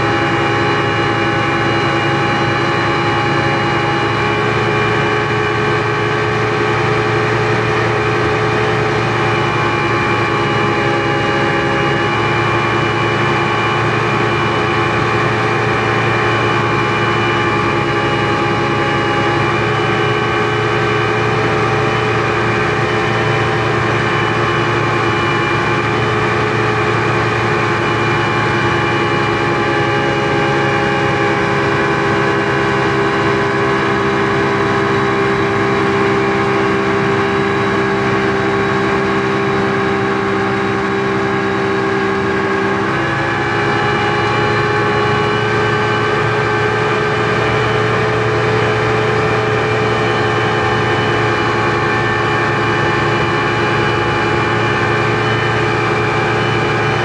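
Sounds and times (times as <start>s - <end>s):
outboard engine drone: 0.0s - 57.0s.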